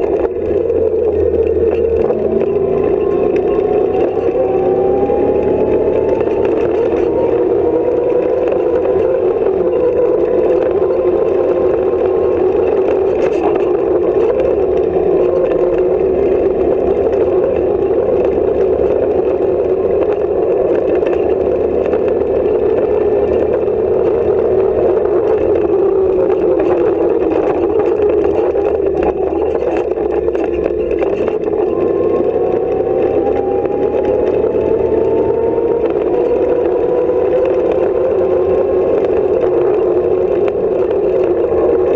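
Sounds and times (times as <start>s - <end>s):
body rattles and knocks: 0.0s - 41.9s
car engine running hard: 0.0s - 41.9s.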